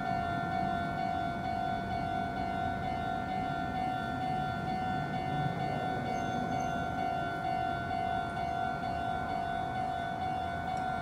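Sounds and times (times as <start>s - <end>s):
level crossing warning bell: 0.0s - 11.0s.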